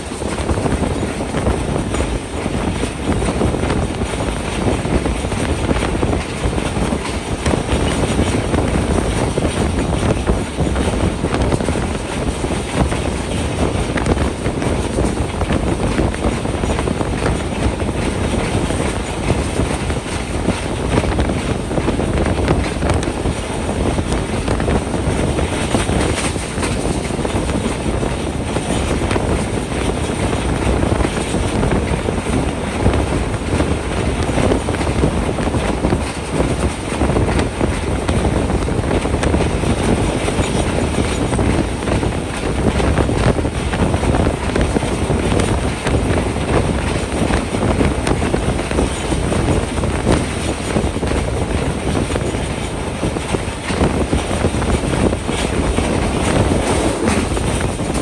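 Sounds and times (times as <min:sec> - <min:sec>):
rushing air: 0:00.0 - 0:58.0
train wheels rumbling on rails: 0:00.0 - 0:58.0.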